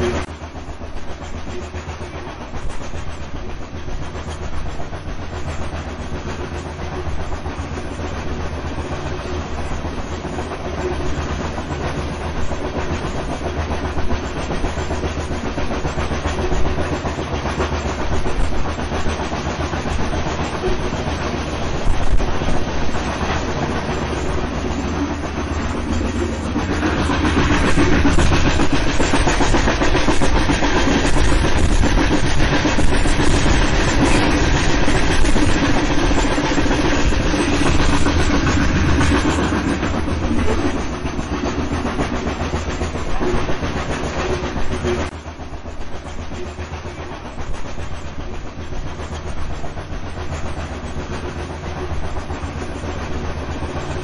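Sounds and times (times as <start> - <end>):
steam train running on rails: 0.0 - 54.0.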